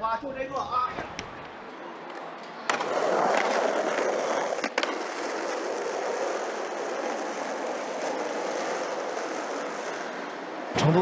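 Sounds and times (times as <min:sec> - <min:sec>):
skateboard clacks: 0:02.1 - 0:11.0
skateboard wheels rolling on stone: 0:02.1 - 0:11.0.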